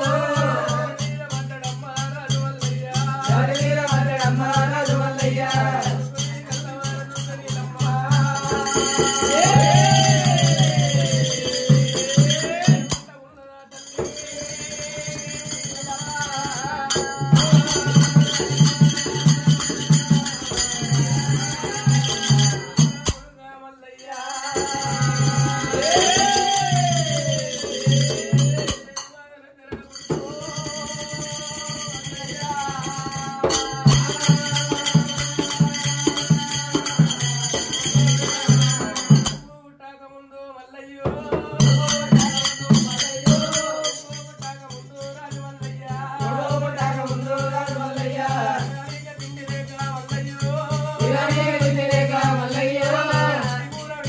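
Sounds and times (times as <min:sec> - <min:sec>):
jingling percussion: 0:00.0 - 0:23.4, 0:24.0 - 0:39.6, 0:41.0 - 0:54.0
person singing: 0:00.0 - 0:54.0.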